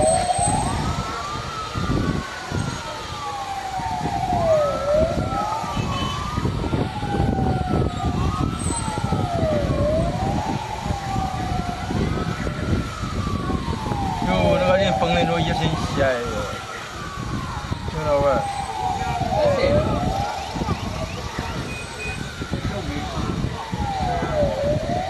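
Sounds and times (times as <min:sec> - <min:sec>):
emergency vehicle sirens wailing: 0:00.0 - 0:25.0
street noise rumble: 0:00.0 - 0:25.0.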